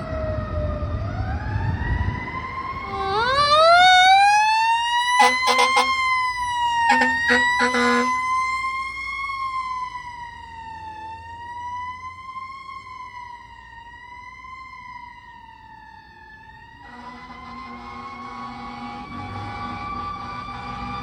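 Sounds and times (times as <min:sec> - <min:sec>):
fire engine siren wailing: 0:00.0 - 0:21.0.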